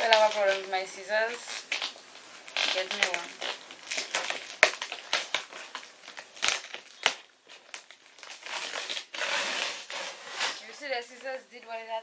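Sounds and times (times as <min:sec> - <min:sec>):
packing tape crinkling: 0:00.0 - 0:10.9.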